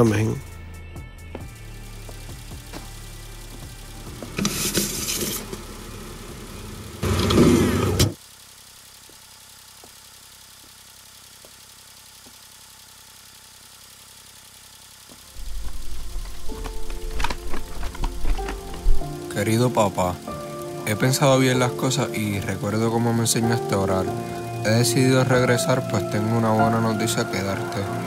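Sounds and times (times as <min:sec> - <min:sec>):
car engine bursts: 0:01.6 - 0:28.0.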